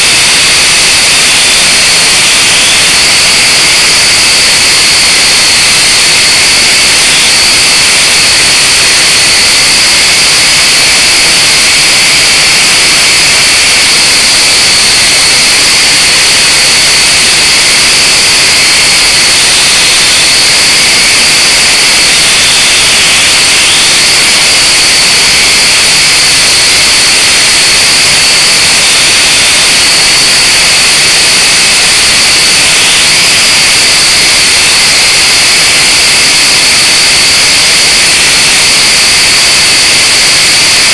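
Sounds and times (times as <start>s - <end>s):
hiss: 0.0s - 40.9s
quadcopter motors whining: 0.0s - 40.9s.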